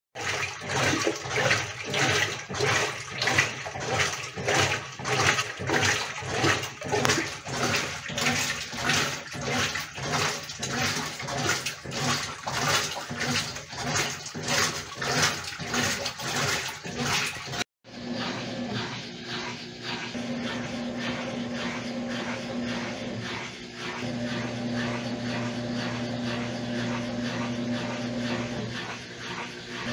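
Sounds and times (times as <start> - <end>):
washing machine water sloshing: 0.2 - 29.9.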